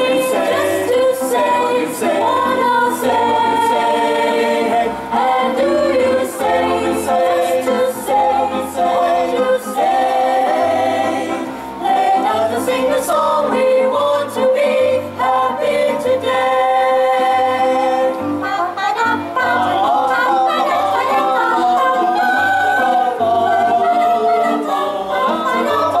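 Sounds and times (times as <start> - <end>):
mixed choir singing in harmony: 0.0 - 26.0.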